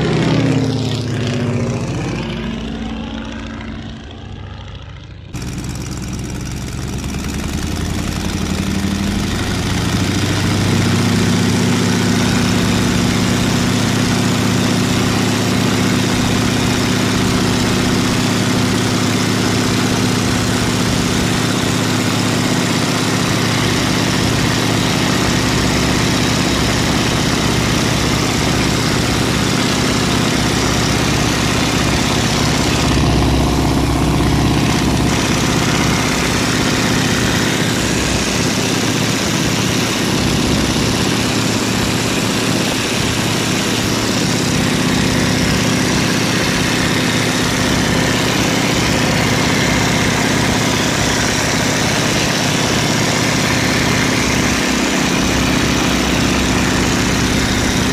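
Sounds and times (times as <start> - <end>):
propeller engine running: 0.0 - 57.9.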